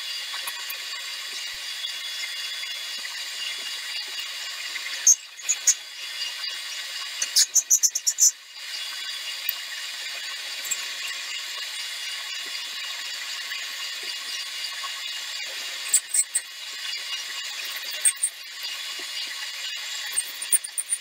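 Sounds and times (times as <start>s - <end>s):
lathe running with whine: 0.0s - 21.0s.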